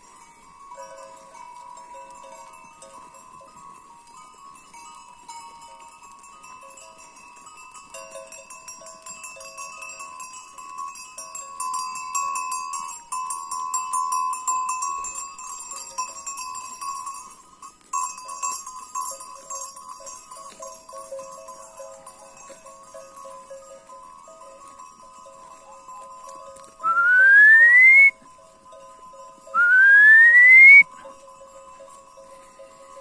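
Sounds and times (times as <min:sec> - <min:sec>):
sheep bells jingling: 0:00.0 - 0:33.0.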